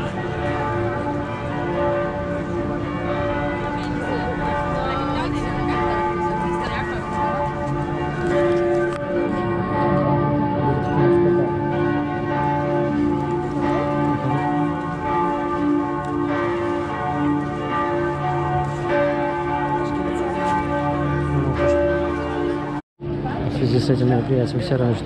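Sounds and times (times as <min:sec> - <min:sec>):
church bells pealing: 0:00.0 - 0:23.2.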